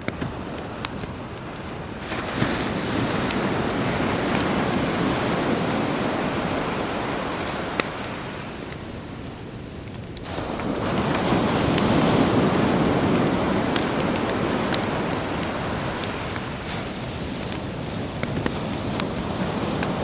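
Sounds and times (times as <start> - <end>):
sea surf washing in: 0.0 - 9.6, 10.2 - 20.0
campfire crackling: 0.0 - 20.0.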